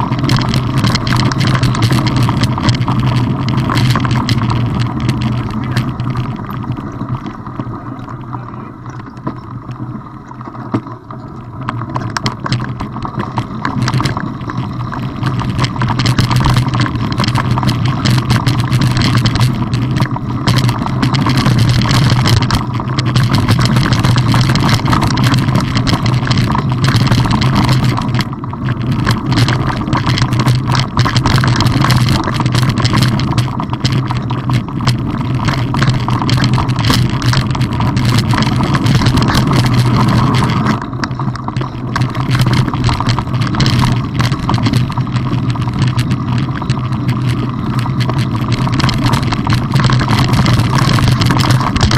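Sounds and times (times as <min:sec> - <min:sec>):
bike rattles and knocks: 0:00.0 - 0:51.9
bike tyre noise on dirt: 0:00.0 - 0:51.9
wind rumble on microphone: 0:00.0 - 0:51.9.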